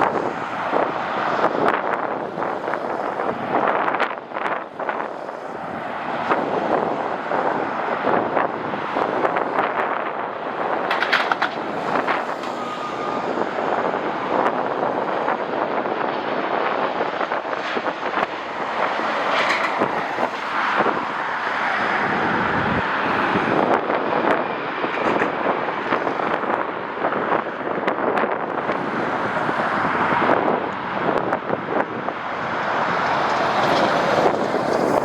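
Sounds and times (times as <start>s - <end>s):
jet engine noise: 0.0s - 35.0s
wind buffeting microphone: 0.0s - 35.0s.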